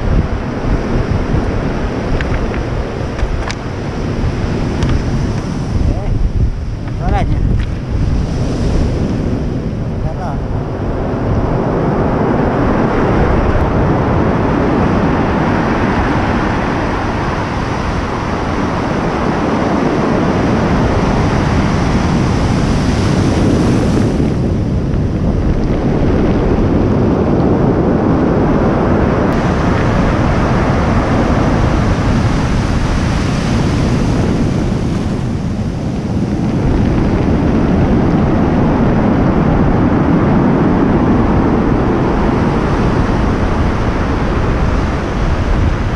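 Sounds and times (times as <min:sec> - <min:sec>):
surf breaking on a cobble beach: 0:00.0 - 0:45.9
wind buffeting the microphone: 0:00.0 - 0:45.9.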